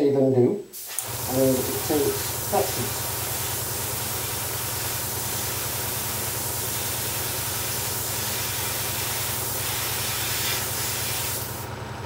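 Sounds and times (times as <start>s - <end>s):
airbrush spraying paint: 0.7s - 11.7s.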